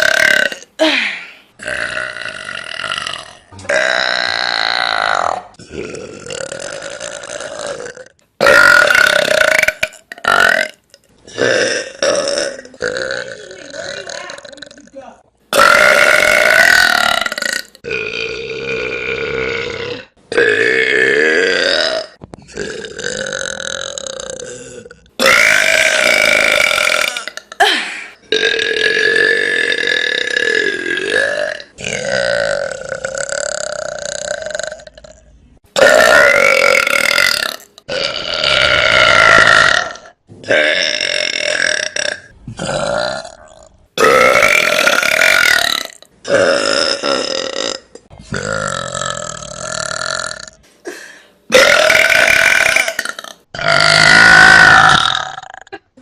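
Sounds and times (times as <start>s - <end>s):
women burping: 0.0s - 10.7s, 11.3s - 35.2s, 35.8s - 56.0s.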